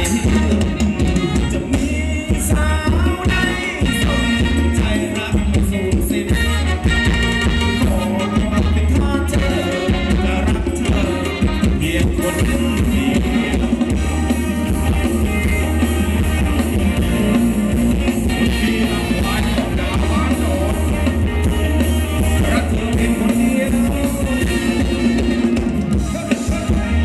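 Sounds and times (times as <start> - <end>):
drum kit dance beat: 0.0 - 27.0
person singing: 0.0 - 27.0.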